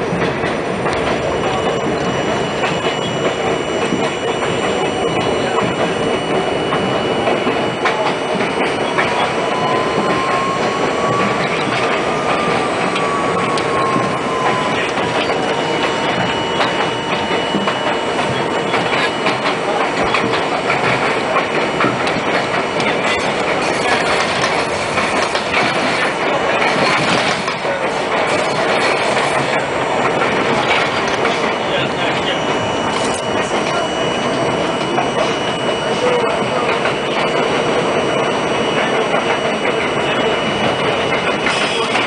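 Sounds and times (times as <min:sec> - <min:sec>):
subway train running: 0:00.0 - 0:42.0
thin train whine: 0:00.0 - 0:42.0
train track clicks: 0:00.0 - 0:42.0.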